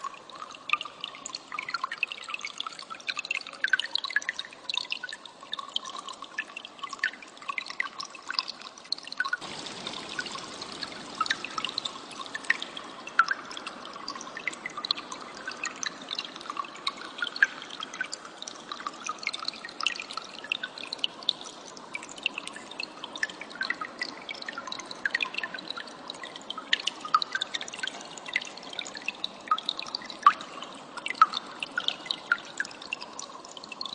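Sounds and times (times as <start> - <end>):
water trickling and dripping: 0.0 - 33.9.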